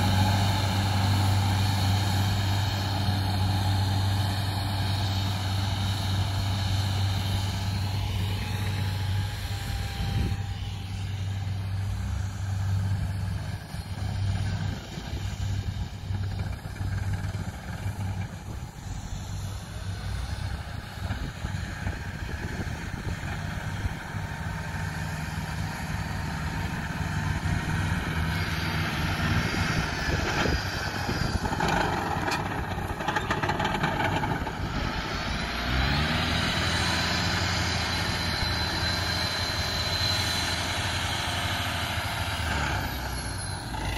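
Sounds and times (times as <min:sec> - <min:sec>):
farm machinery engine running: 0:00.0 - 0:43.9.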